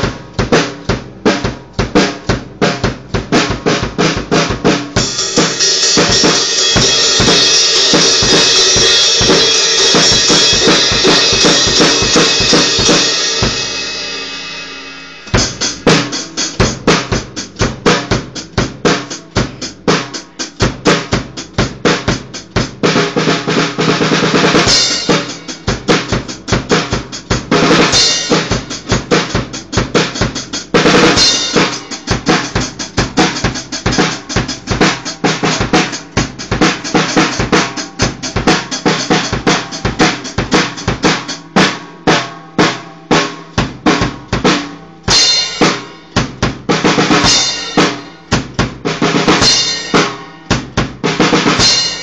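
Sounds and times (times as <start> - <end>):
drum kit playing: 0.0 - 52.0.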